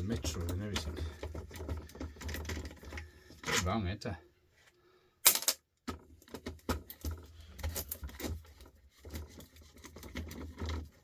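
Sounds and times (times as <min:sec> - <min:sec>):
screwdriver and plastic parts rattling: 0:00.0 - 0:03.8, 0:05.2 - 0:11.0.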